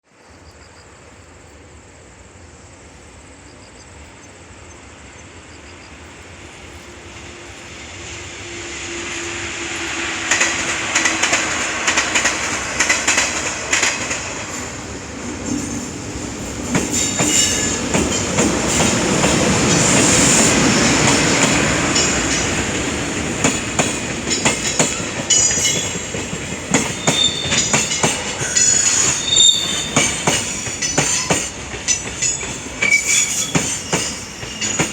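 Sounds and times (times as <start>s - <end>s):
freight train rumbling past: 0.3s - 34.9s
train wheels clicking: 6.4s - 34.9s.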